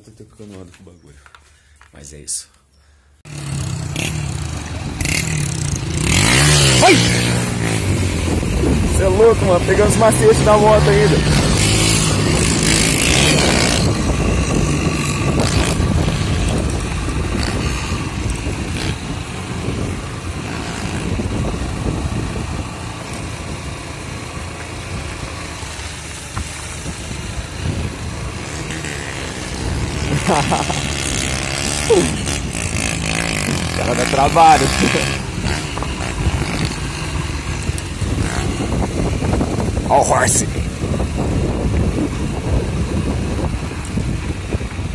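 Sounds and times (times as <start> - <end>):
motorcycle engine running: 3.3 - 44.9
rush of wind noise: 4.8 - 44.9.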